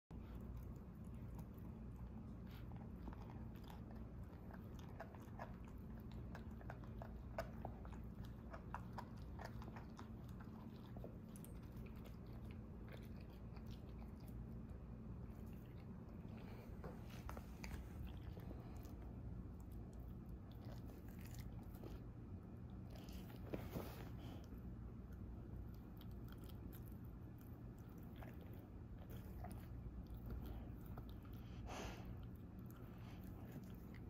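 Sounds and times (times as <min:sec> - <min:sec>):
low steady hum: 0:00.0 - 0:34.0
puppies chewing: 0:00.1 - 0:34.0.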